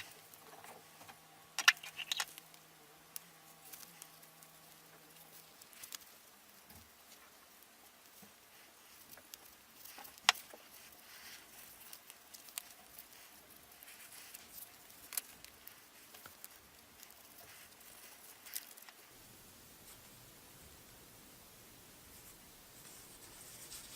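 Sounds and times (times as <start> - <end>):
faint hiss: 0.0 - 23.9.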